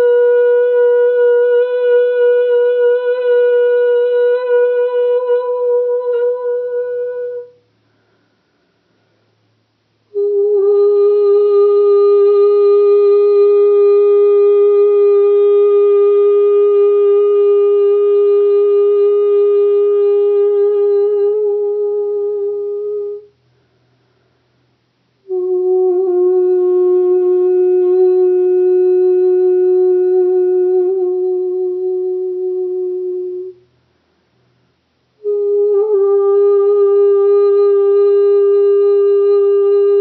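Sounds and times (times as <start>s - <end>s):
woman singing long notes: 0.0s - 7.7s, 10.1s - 23.4s, 25.2s - 33.6s, 35.2s - 40.0s.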